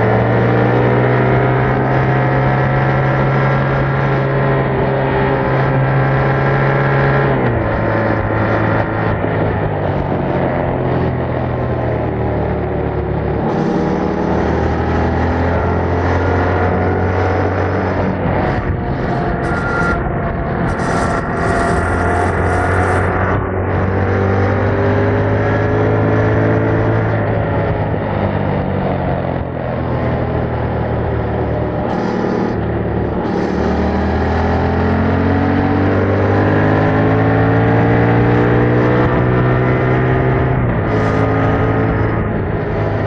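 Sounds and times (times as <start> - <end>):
motorcycle engine under load: 0.0 - 43.0
wind and road noise: 0.0 - 43.0.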